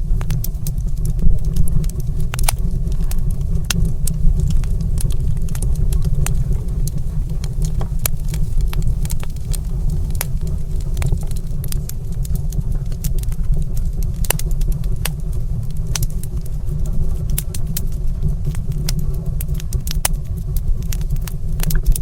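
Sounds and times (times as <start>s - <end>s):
fire burning with crackles: 0.0s - 22.0s.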